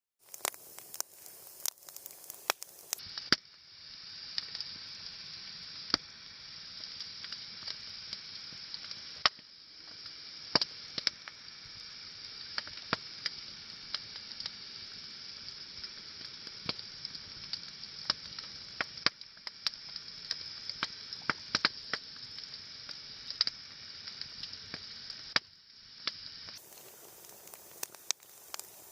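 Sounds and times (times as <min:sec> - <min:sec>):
bonfire crackling and popping: 0:00.2 - 0:28.9.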